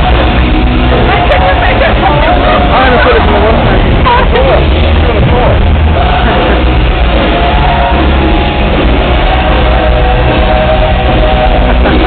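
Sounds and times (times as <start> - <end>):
rock band playing loudly: 0.0 - 12.0.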